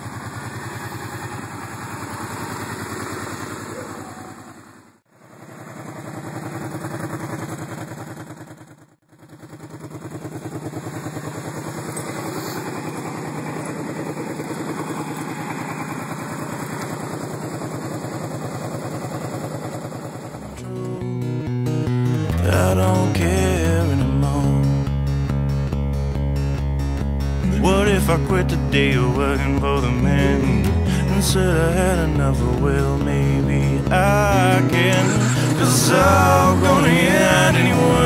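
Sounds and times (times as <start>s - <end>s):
atv engine idling: 0.0s - 38.0s.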